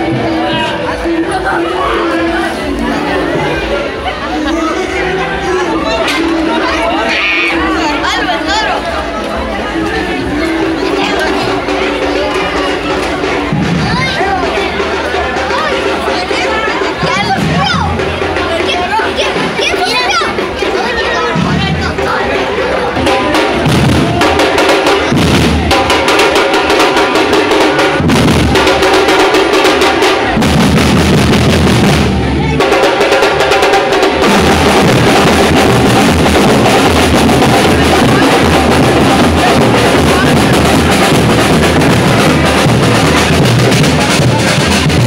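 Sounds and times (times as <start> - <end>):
marching drums beating: 0.0 - 45.0.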